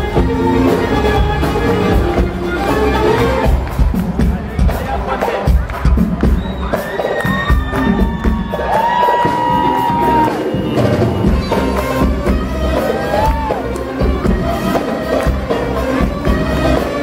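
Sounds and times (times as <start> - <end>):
live band music over pa: 0.0 - 17.0
low drum beat: 0.0 - 17.0.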